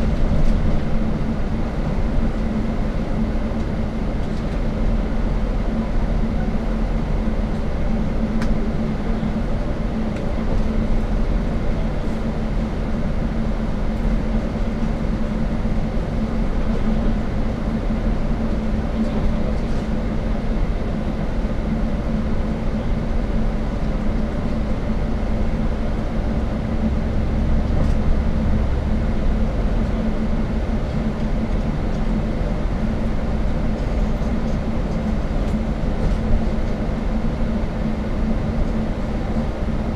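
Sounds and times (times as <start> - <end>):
shuttle bus engine and road noise: 0.0 - 39.9.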